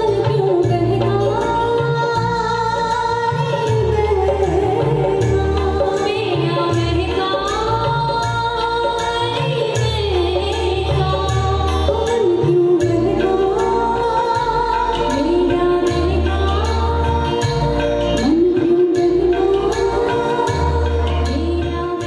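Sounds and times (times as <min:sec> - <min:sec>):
instrumental accompaniment with bass and beat: 0:00.0 - 0:22.0
women singing into microphones: 0:00.0 - 0:22.0.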